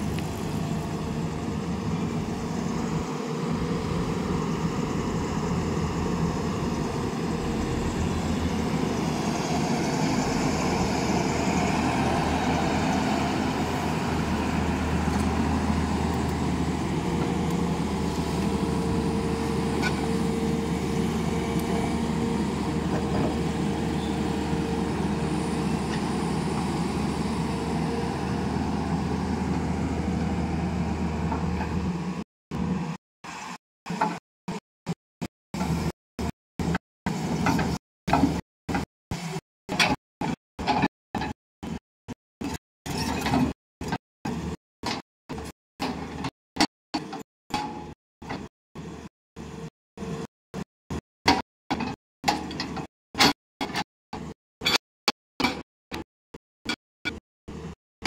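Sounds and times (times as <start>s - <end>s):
excavator diesel engine running: 0.0s - 32.9s, 35.6s - 41.8s, 42.4s - 50.3s.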